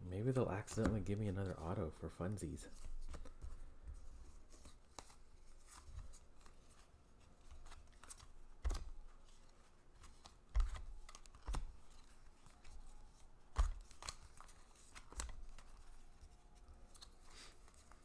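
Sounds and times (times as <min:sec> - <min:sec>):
cards rustling: 0:00.3 - 0:18.0.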